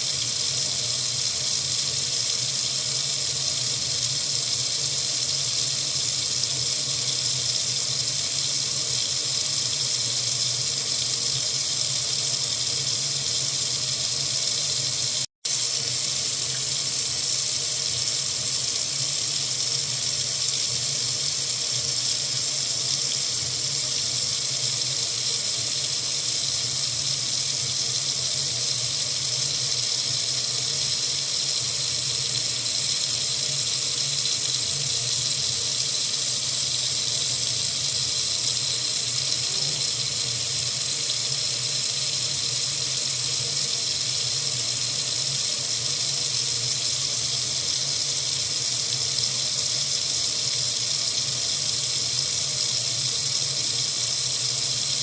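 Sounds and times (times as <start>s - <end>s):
faucet running into sink: 0.0s - 55.0s.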